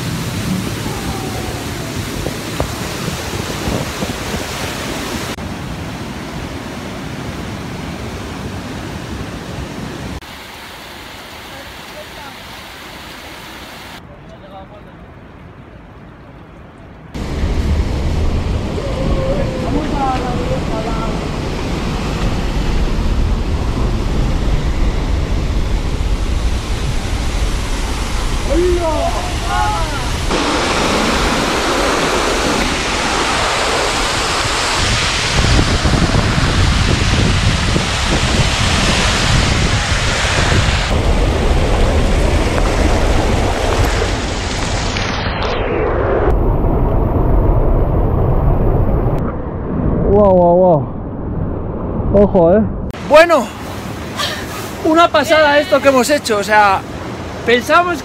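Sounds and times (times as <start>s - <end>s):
wind buffeting microphone: 0.0s - 10.2s, 16.7s - 53.0s
white water rushing: 0.0s - 14.0s, 17.2s - 45.1s, 53.0s - 58.0s.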